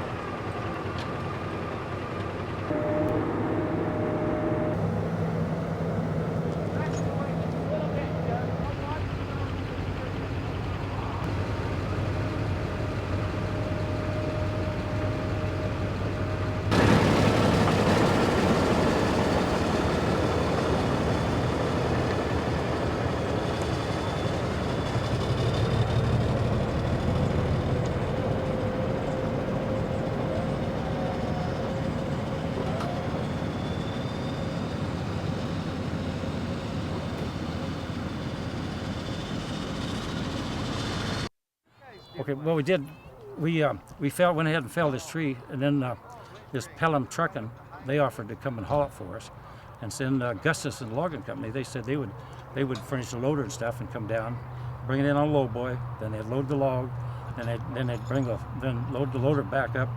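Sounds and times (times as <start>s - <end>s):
heavy engine running: 0.0s - 41.3s, 48.6s - 59.9s.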